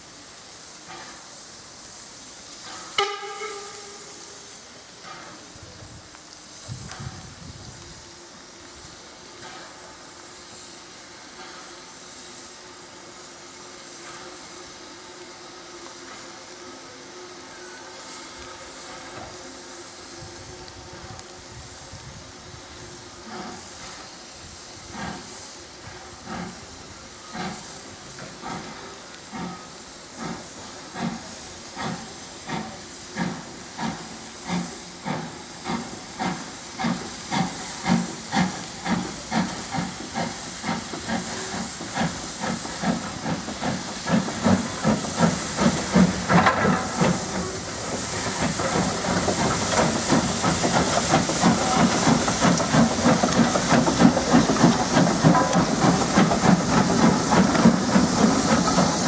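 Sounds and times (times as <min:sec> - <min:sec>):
steam hiss: 0:00.0 - 0:59.0
steam locomotive chuffing: 0:00.0 - 0:59.0.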